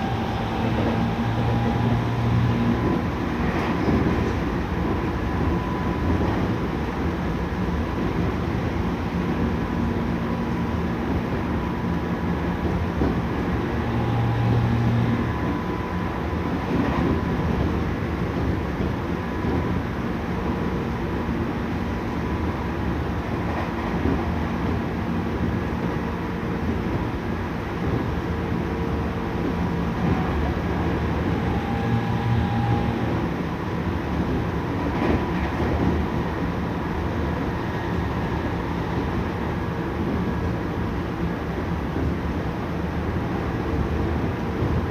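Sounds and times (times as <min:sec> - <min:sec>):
wheels rumbling on rail: 0:00.0 - 0:44.9.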